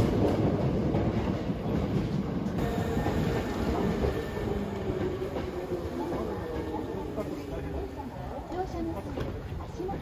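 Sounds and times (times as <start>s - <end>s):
electric train rumbling past: 0.0s - 10.0s.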